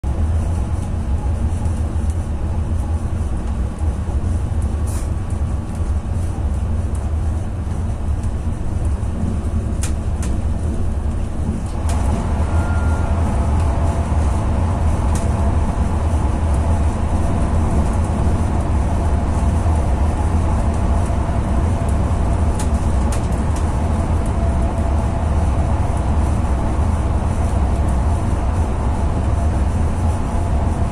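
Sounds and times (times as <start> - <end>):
train running low rumble: 0.0 - 30.9.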